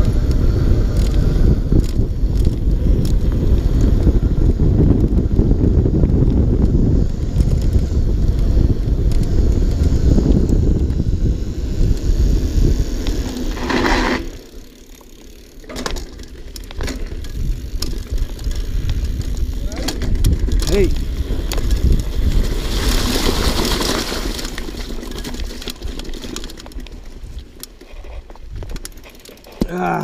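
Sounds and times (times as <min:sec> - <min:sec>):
wind rumble on microphone: 0:00.0 - 0:14.7, 0:16.7 - 0:26.0, 0:28.0 - 0:28.9
bike clicks and rattles: 0:00.0 - 0:30.0.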